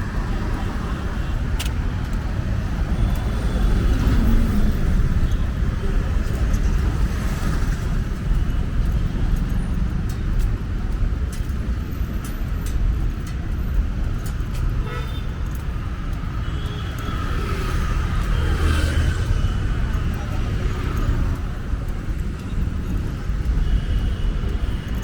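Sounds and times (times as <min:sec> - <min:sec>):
passing cars rumbling: 0:00.0 - 0:25.0.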